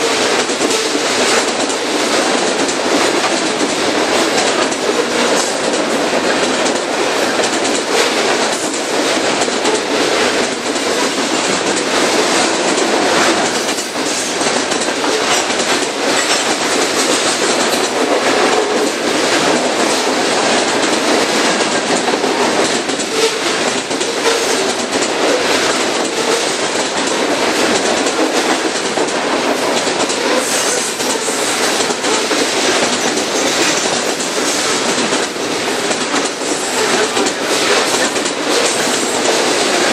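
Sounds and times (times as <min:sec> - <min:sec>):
freight train cars rolling past: 0:00.0 - 0:39.9
wheels clicking over rail joints: 0:00.0 - 0:39.9.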